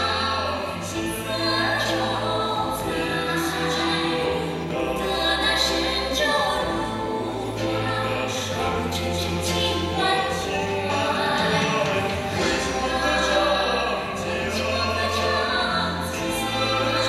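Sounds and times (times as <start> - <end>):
stage music with choral singing: 0.0 - 17.0.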